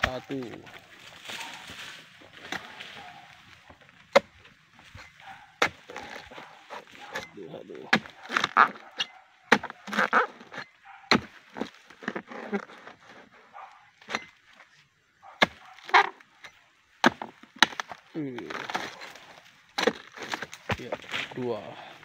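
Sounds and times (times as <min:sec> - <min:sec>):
chisel chopping palm stalks: 0:00.0 - 0:14.5, 0:15.4 - 0:21.4
stalks rustling and splintering: 0:00.0 - 0:22.0.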